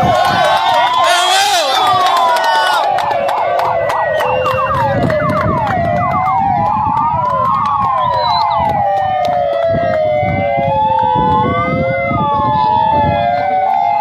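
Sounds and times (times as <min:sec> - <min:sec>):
fire engine sirens wailing: 0:00.0 - 0:14.0.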